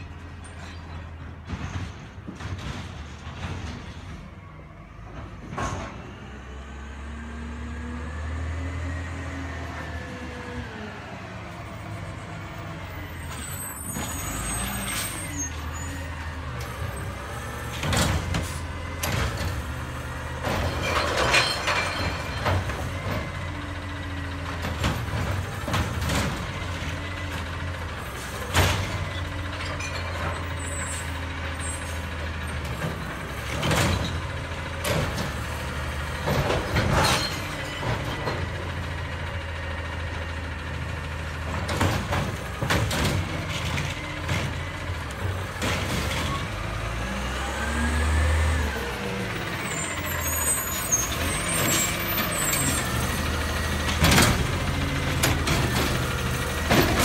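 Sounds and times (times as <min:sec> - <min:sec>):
garbage truck engine: 0:00.0 - 0:57.0.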